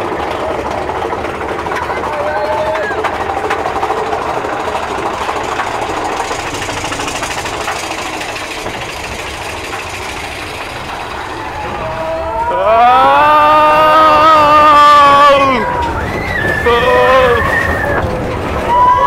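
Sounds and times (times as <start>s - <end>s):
train cars rumbling and rattling: 0.0s - 19.0s.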